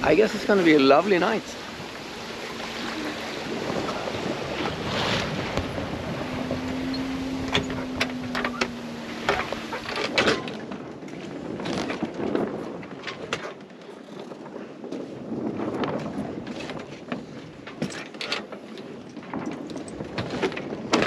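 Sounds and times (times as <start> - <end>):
water splashing along hull: 0.0 - 21.0
wind on microphone: 0.0 - 21.0.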